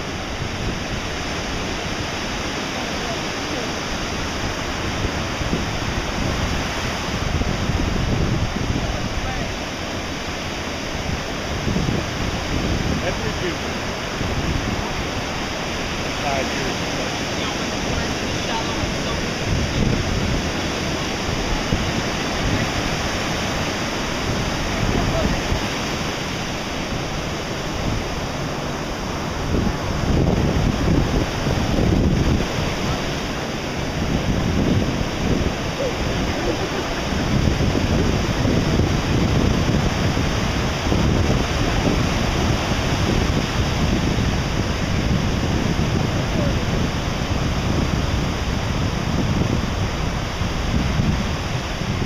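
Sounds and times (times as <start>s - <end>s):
ocean surf washing on beach: 0.0s - 52.0s
wind on microphone: 0.0s - 52.0s.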